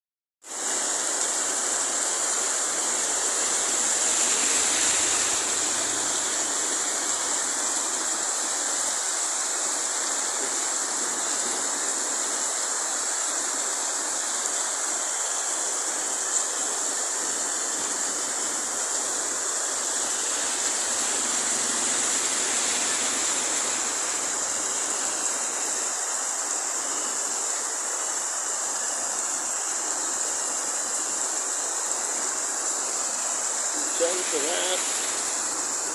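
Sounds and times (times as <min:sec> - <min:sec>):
heavy rain falling: 0:00.4 - 0:35.9.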